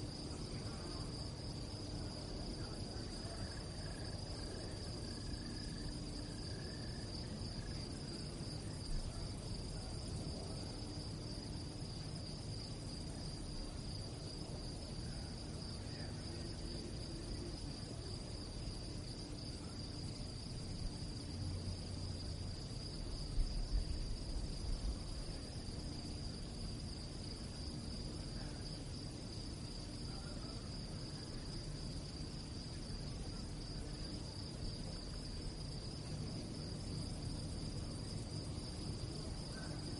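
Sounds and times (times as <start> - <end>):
crickets chirping: 0.0 - 39.9
low background rumble: 0.0 - 39.9.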